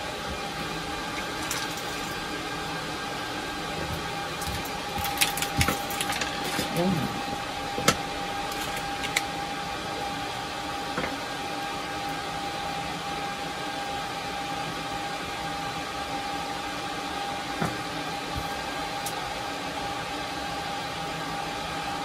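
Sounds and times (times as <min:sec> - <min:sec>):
constant high whine: 0:00.0 - 0:22.0.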